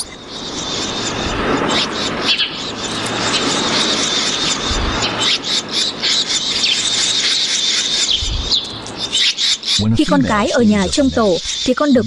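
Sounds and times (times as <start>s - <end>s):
constant hiss: 0.0s - 12.0s
insects trilling: 0.0s - 12.0s.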